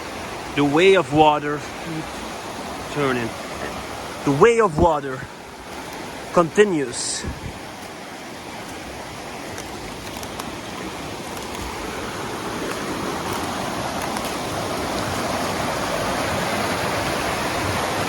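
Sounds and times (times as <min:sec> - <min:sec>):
waterfall rushing water: 0:00.0 - 0:18.0.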